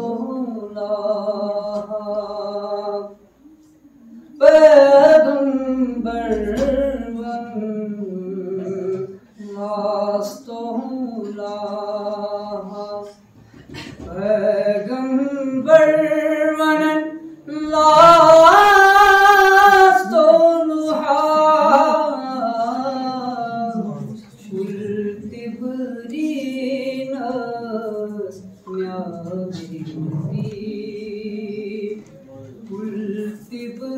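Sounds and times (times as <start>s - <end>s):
man singing unaccompanied: 0.0s - 3.2s, 4.4s - 13.2s, 14.1s - 33.9s.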